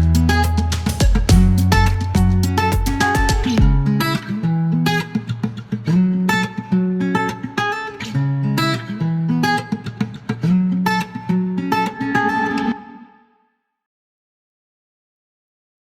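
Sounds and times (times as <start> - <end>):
guitar plucked and strummed: 0.0 - 13.4.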